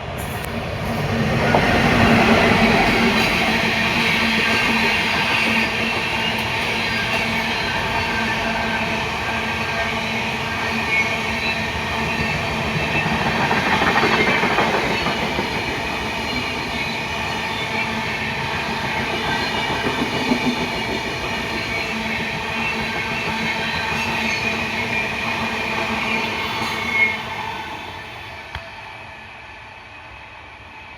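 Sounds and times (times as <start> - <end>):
train running on track: 0.0 - 30.9.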